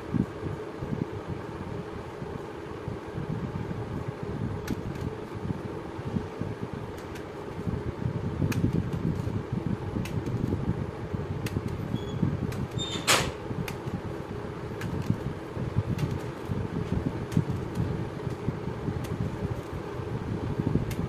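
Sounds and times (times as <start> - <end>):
low rumbling background noise: 0.0 - 21.0.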